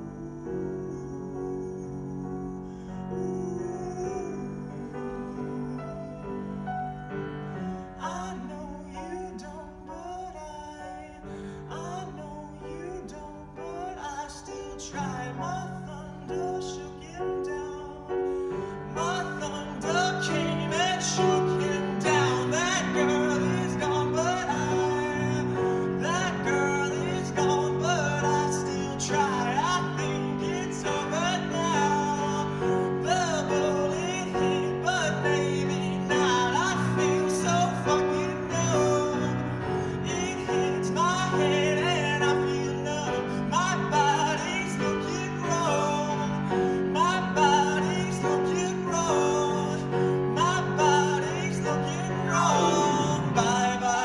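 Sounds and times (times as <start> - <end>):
person singing wordless vocals: 0.0 - 54.0.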